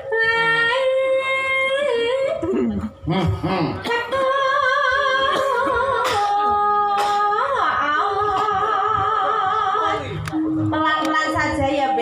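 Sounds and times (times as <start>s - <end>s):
woman singing with vibrato: 0.0s - 3.0s, 3.8s - 12.0s.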